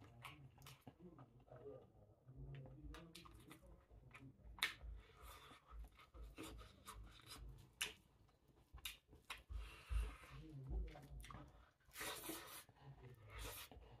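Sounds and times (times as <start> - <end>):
chewing crunchy food: 0.0 - 14.0.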